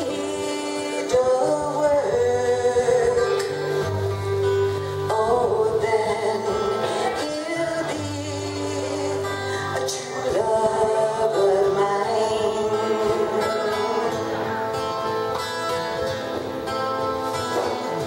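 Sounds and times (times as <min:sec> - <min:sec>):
woman singing: 0:00.0 - 0:15.0
twelve-string acoustic guitar: 0:00.0 - 0:18.0.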